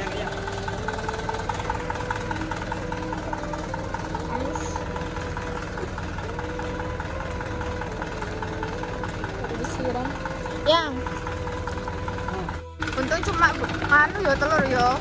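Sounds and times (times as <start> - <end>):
background music gliding melody: 0.0 - 15.0
diesel truck engine idling: 0.0 - 15.0.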